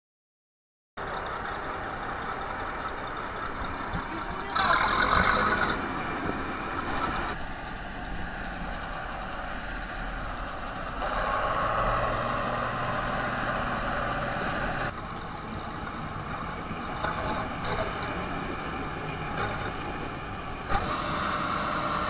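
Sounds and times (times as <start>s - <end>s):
diesel engine running: 1.0s - 22.0s.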